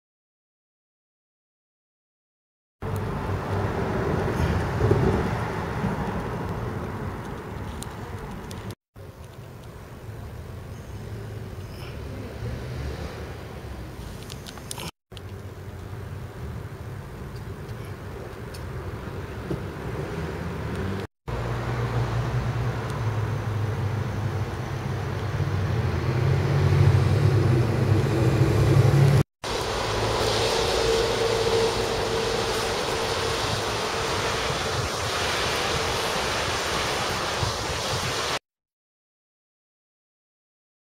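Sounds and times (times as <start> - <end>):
road traffic rumble: 2.8 - 38.4.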